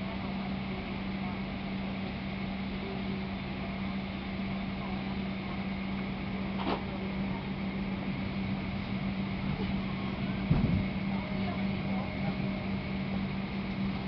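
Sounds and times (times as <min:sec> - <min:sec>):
ramp machinery drone: 0:00.0 - 0:14.0.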